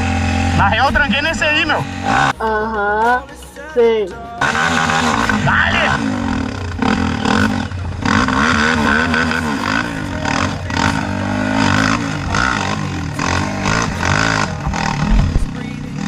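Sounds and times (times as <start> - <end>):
dirt bike engine revving: 0.0 - 2.5, 4.4 - 16.0.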